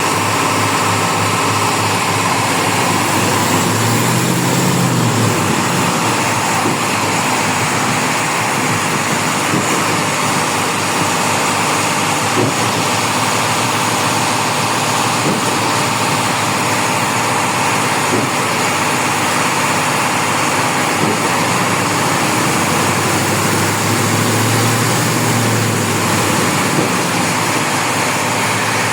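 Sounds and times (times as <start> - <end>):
concrete mixer drone: 0.0 - 28.9.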